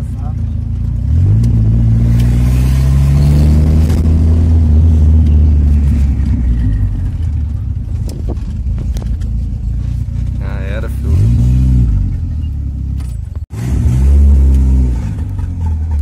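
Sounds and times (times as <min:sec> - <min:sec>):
car engine under throttle: 0:00.0 - 0:16.0
road rumble: 0:00.0 - 0:16.0.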